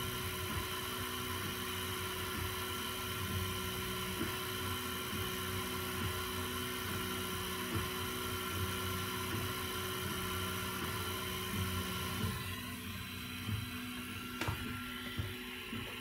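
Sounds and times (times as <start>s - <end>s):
three d printer whirring: 0.0s - 16.0s.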